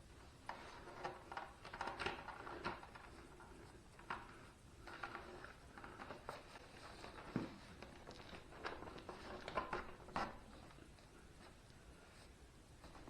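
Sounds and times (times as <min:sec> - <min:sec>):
faint clicks and knocks of parts: 0:00.0 - 0:13.0
rustling of wiring: 0:00.0 - 0:13.0.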